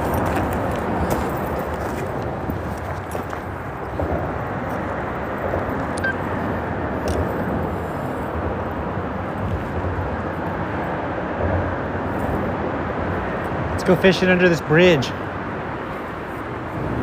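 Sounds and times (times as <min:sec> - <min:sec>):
freeway traffic rumble: 0:00.0 - 0:17.0.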